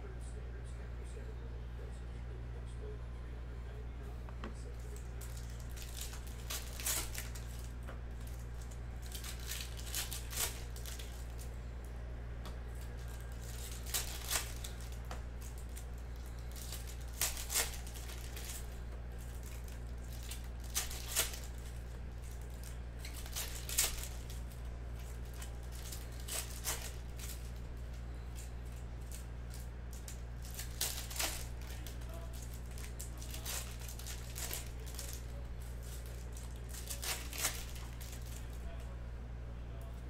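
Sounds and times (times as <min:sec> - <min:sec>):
steady low hum: 0:00.0 - 0:40.0
foil wrappers crinkling: 0:04.6 - 0:11.6, 0:12.7 - 0:38.9.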